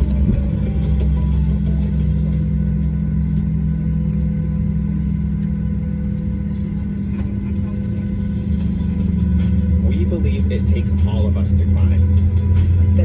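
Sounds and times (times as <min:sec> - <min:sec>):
airplane cabin drone: 0:00.0 - 0:13.0
faint steady whine: 0:00.0 - 0:13.0.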